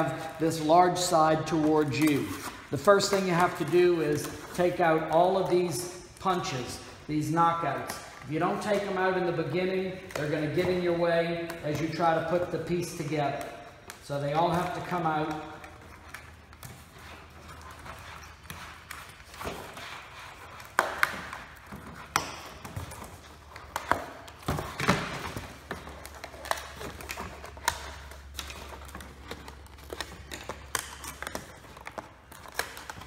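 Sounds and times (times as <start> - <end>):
cardboard rustling: 0.0 - 33.0.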